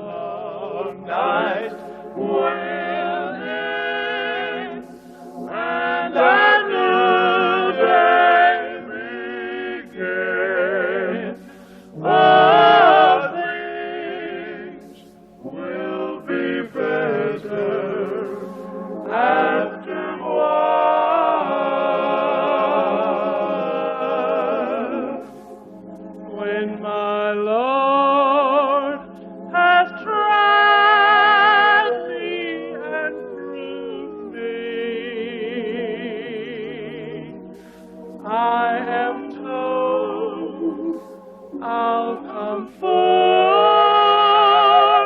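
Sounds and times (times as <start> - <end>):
slow gospel singing with vibrato: 0.0 - 45.0.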